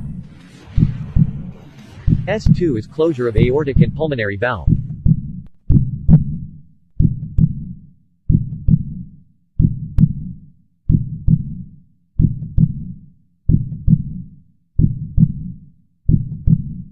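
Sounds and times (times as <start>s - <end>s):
heartbeat lub-dub: 0.0s - 16.9s.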